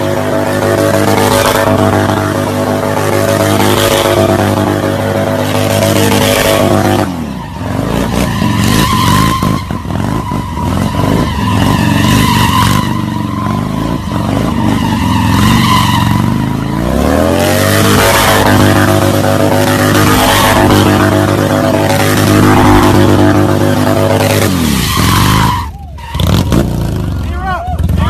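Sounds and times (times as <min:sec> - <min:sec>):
vehicle engine revving high: 0:00.0 - 0:27.2
tyres skidding: 0:00.0 - 0:28.0.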